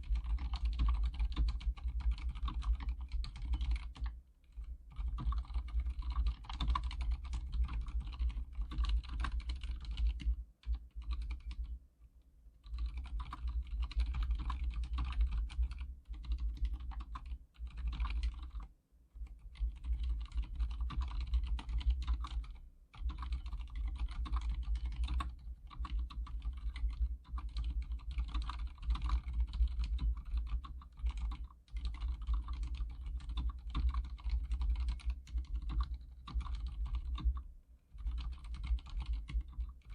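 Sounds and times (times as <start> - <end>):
muted mechanical keyboard typing: 0.0 - 11.8, 12.6 - 39.9
steady low hum: 0.0 - 39.9.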